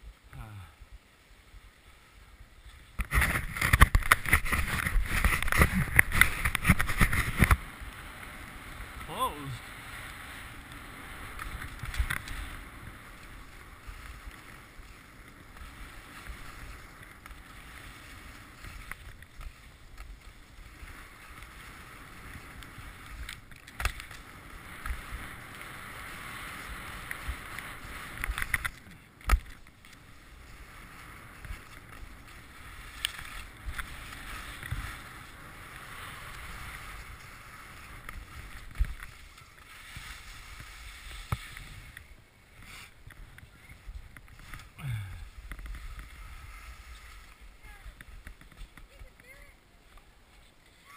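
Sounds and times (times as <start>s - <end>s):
skis hissing over snow: 1.0s - 3.5s, 4.2s - 50.9s.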